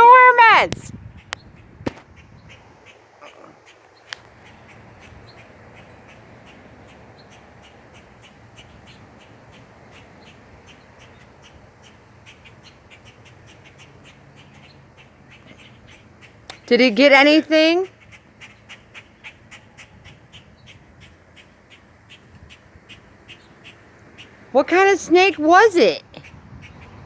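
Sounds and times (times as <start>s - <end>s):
starlings harsh alarm calls: 1.5s - 27.0s.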